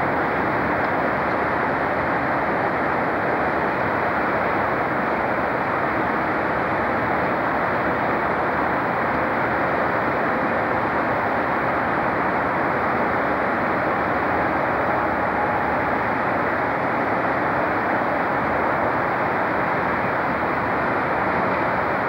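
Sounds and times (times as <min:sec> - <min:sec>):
locomotive rumbling: 0:00.0 - 0:22.0.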